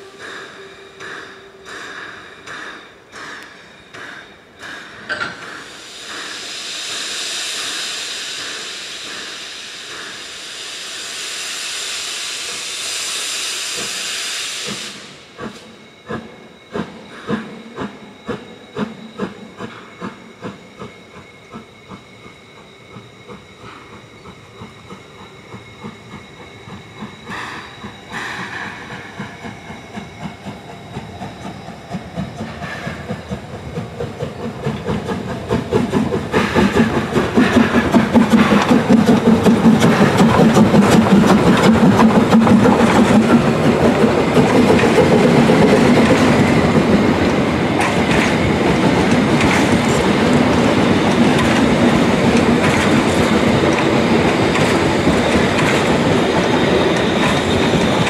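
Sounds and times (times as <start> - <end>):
loud steam hiss: 0.0 - 58.0
steam locomotive exhaust chuffs: 0.0 - 58.0.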